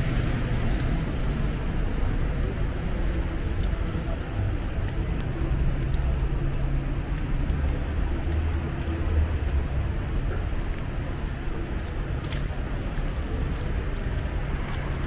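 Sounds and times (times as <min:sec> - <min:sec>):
vehicle traffic rumble: 0:00.0 - 0:15.0.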